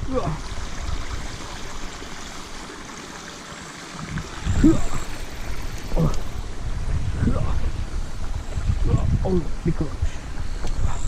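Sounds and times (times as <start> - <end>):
wind buffeting microphone: 0.0 - 2.6, 4.0 - 11.0
stream water rushing: 0.0 - 11.0.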